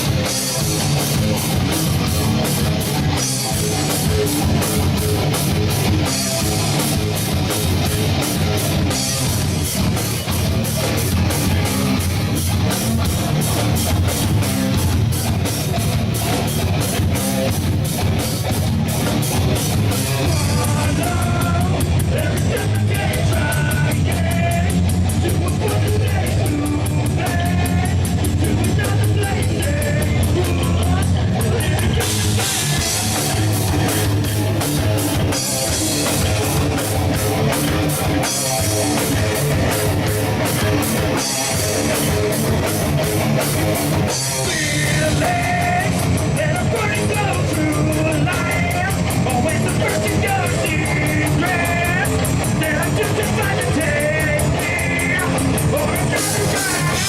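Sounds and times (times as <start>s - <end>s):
drum kit with cymbals: 0.0s - 57.0s
melodic lead guitar line: 0.0s - 57.0s
rock band playing live: 0.0s - 57.0s.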